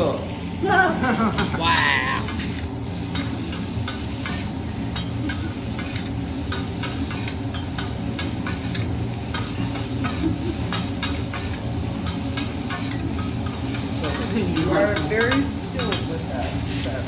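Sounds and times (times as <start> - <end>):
food sizzling on a griddle: 1.2 - 17.0
spatulas clicking and scraping: 1.3 - 17.0.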